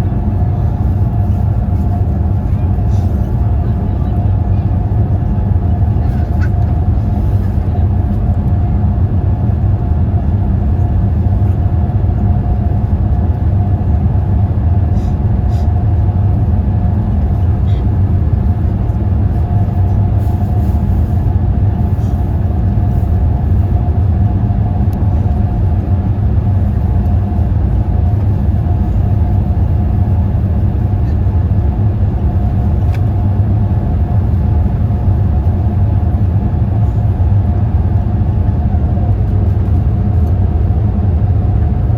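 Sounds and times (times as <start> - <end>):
airliner engine and airflow drone: 0.0 - 41.9.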